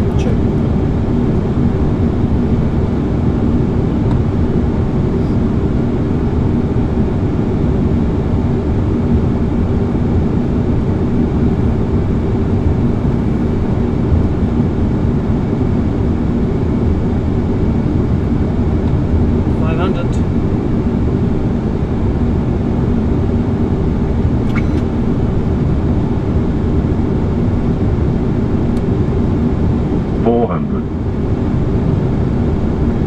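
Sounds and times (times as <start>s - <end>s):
cockpit airflow and engine noise: 0.0s - 33.0s
low steady drone: 0.0s - 33.0s.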